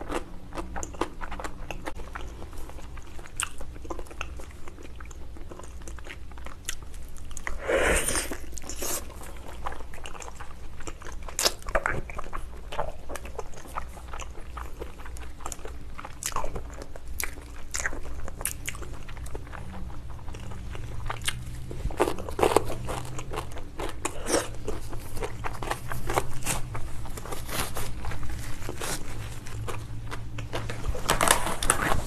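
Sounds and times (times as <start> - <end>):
chewing and biting: 0.0 - 7.6, 8.2 - 32.0.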